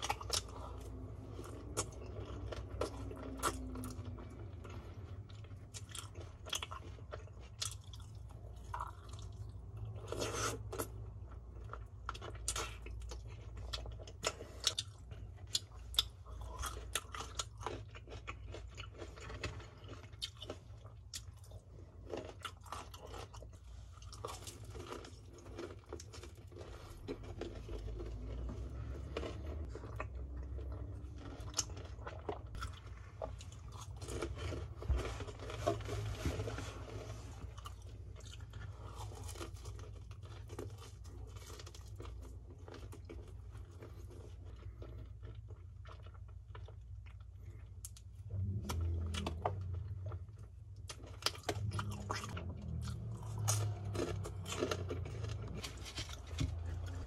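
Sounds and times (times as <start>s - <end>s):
person chewing crispy chicken: 0.0s - 57.0s.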